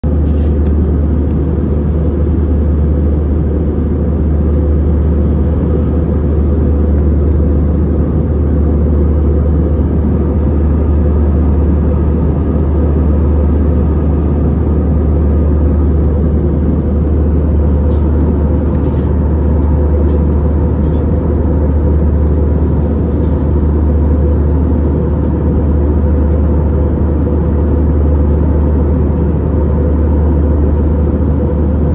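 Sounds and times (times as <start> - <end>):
airflow noise: 0.0 - 31.9
airliner cabin engine drone: 0.0 - 31.9.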